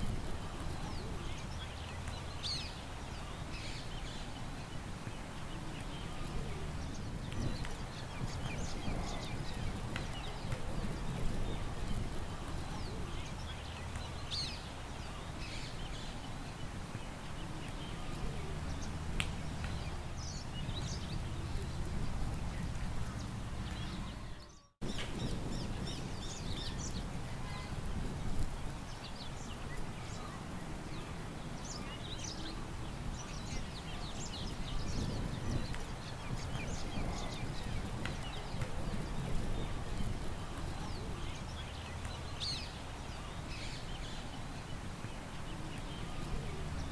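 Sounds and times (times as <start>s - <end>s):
low wind rumble: 0.0s - 46.9s
small birds chirping: 0.0s - 46.9s.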